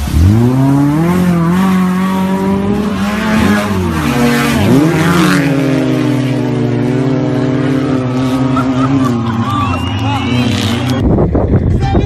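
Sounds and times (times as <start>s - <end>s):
truck engine revving: 0.0s - 11.1s.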